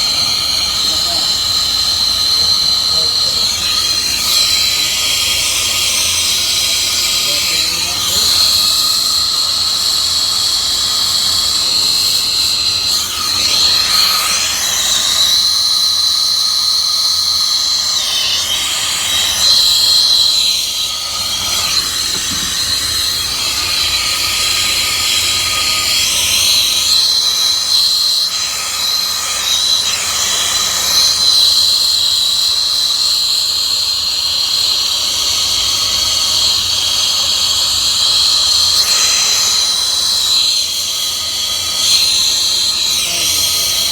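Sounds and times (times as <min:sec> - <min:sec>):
high whistle: 0:00.0 - 0:43.9
torch flame hissing: 0:00.0 - 0:43.9.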